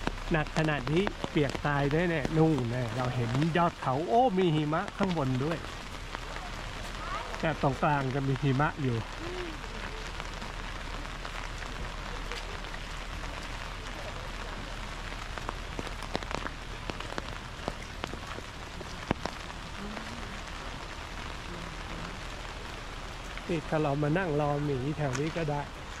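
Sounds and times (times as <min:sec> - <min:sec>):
heavy rain hissing: 0:00.0 - 0:26.0
rain drop ticks: 0:00.0 - 0:26.0.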